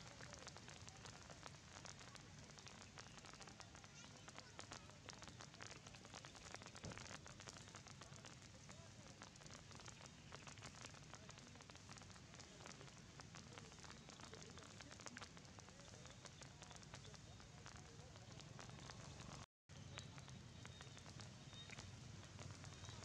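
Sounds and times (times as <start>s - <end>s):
light rain pattering: 0.0s - 23.0s.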